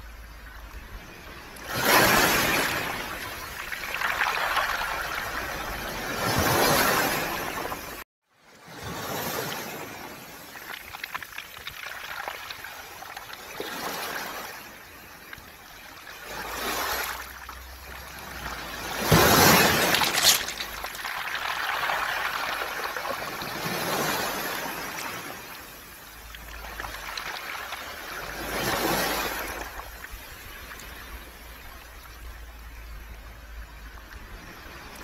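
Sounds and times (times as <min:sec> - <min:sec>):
waves rattling pebbles: 0:00.0 - 0:08.0, 0:08.7 - 0:33.0.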